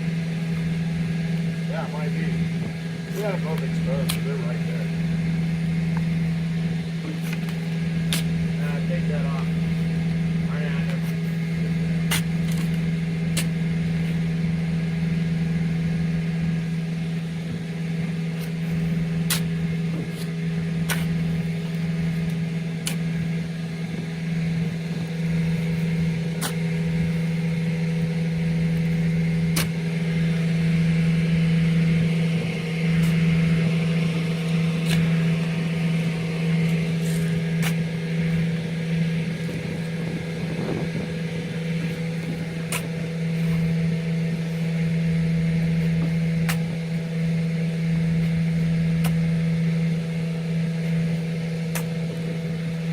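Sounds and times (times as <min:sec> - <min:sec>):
truck engine and vacuum pump hum: 0:00.0 - 0:52.9.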